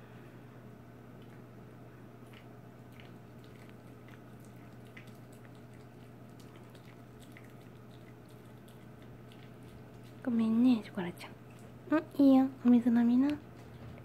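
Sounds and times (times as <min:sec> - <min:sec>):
steady low hum: 0:00.0 - 0:14.0
dog chewing: 0:01.2 - 0:01.5, 0:02.2 - 0:12.7, 0:13.3 - 0:14.0.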